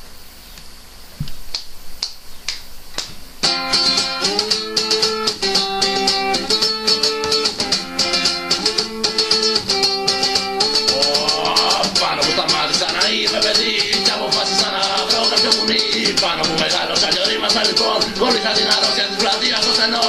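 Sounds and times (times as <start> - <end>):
punk rock band playing: 3.4 - 20.0.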